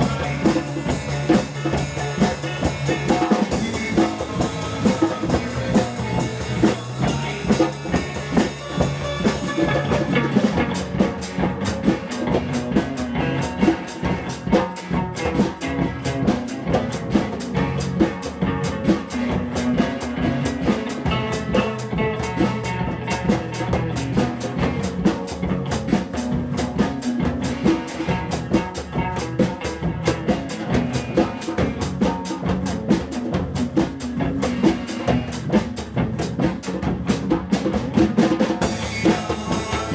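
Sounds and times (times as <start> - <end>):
drum kit beat: 0.0 - 39.9.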